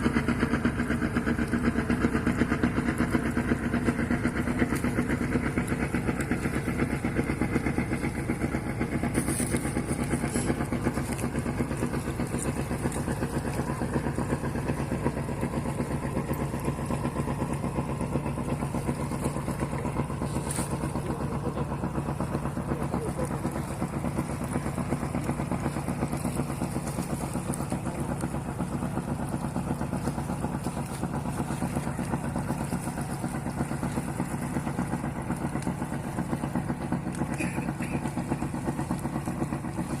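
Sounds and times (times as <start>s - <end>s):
boat engine chugging: 0.0s - 40.0s.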